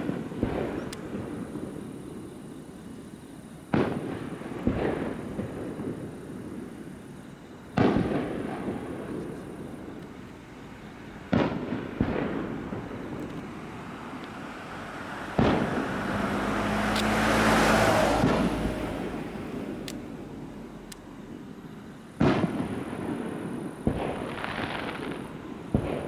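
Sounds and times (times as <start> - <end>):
fireworks bursting with booms: 0.0 - 16.6, 18.0 - 20.3, 21.1 - 26.0.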